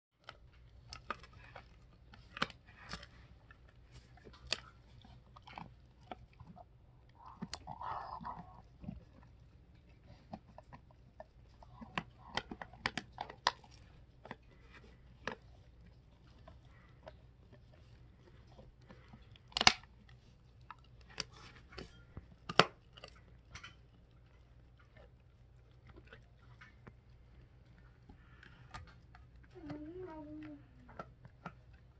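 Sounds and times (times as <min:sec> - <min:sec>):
puppy chewing and crunching: 0:00.2 - 0:31.9.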